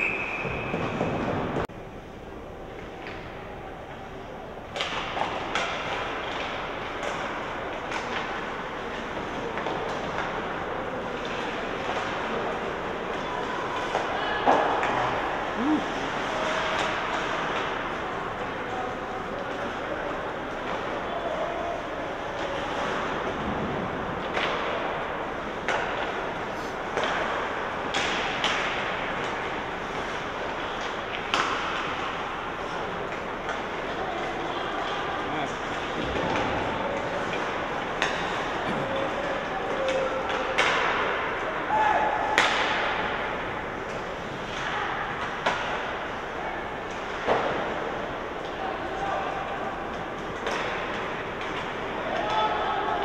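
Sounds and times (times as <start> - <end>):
hockey sticks and puck clacking: 0.0 - 1.7, 4.7 - 53.0
arena noise: 0.0 - 53.0.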